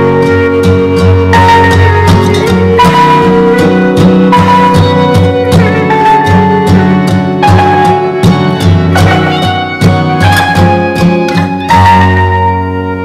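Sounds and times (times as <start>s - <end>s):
steady drum beat: 0.0s - 12.3s
melody of long held notes: 0.0s - 13.0s.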